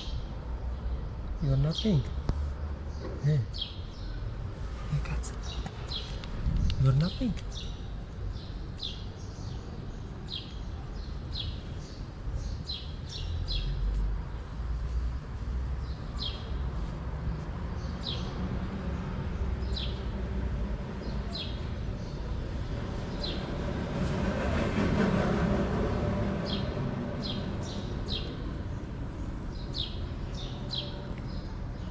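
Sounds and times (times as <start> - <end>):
small birds chirping: 0.0 - 23.7, 26.0 - 31.9.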